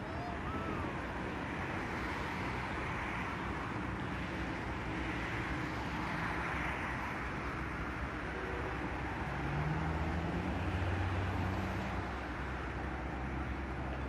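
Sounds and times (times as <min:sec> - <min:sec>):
distant city traffic hum: 0:00.0 - 0:14.0.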